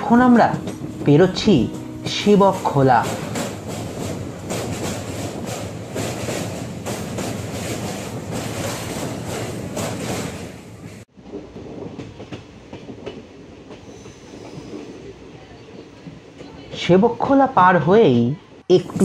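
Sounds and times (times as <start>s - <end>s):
train wheels rumbling on rails: 0.0s - 17.6s.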